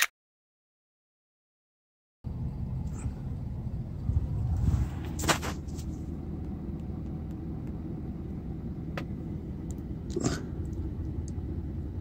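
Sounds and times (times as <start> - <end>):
truck engine running: 2.2 - 12.0.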